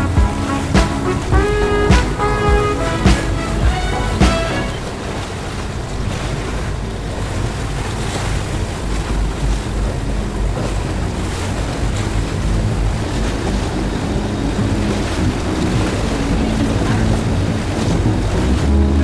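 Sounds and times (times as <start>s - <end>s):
choppy water slapping: 0.0s - 19.0s
low steady drone: 0.0s - 19.0s
wind buffeting microphone: 0.0s - 19.0s.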